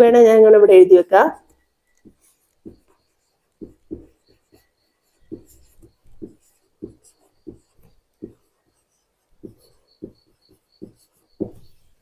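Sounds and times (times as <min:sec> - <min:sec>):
pen writing strokes: 0:01.4 - 0:12.0.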